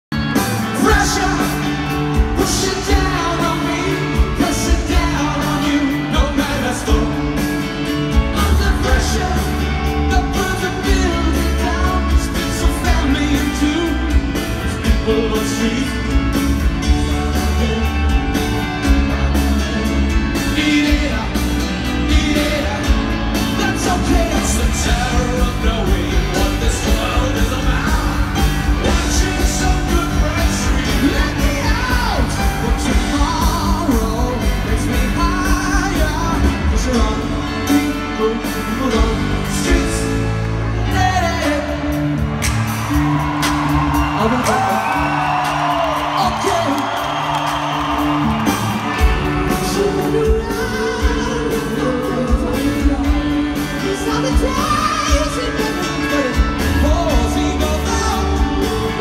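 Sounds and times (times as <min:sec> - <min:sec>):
live rock band with singing: 0:00.1 - 0:59.0.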